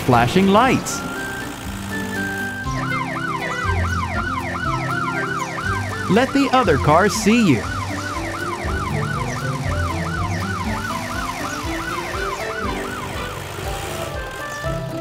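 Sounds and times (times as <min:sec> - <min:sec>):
cartoon siren wailing: 0:00.6 - 0:14.8.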